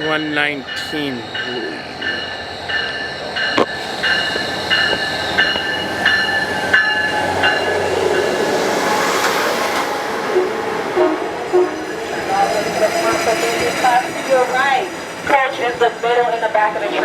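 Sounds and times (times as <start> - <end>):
train bell ringing: 0.0 - 17.0
train rumble: 0.0 - 17.0.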